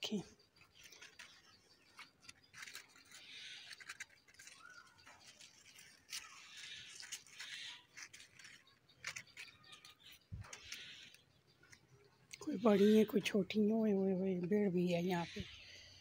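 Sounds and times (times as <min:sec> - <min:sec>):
leaves and twigs rustling: 0:00.0 - 0:16.0.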